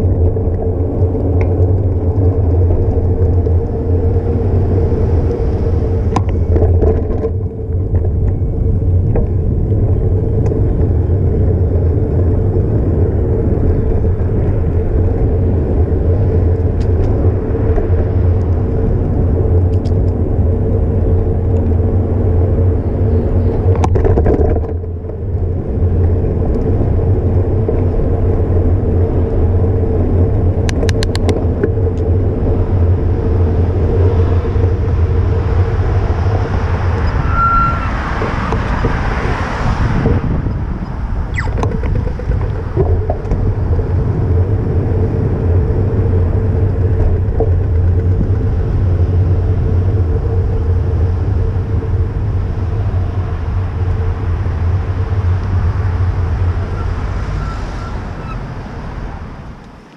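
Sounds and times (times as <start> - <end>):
bicycle clicks and rattles: 0.0 - 37.1, 40.3 - 52.9
road rumble: 0.0 - 59.9
wind noise: 0.0 - 59.9.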